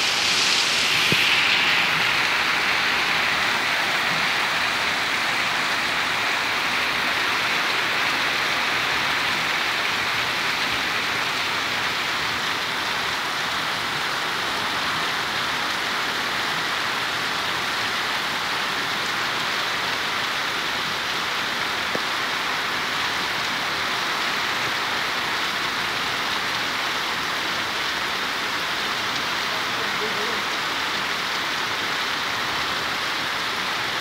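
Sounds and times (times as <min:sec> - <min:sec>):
heavy rain on street and rooftops: 0:00.0 - 0:34.0.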